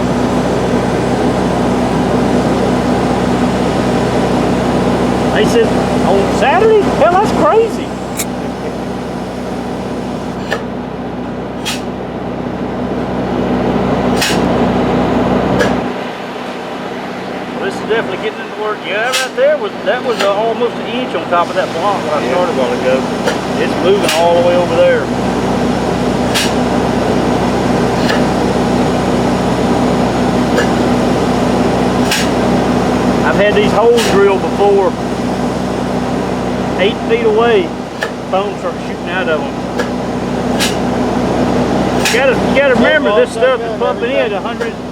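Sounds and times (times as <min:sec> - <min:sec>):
machinery engine drone: 0:00.0 - 0:44.9.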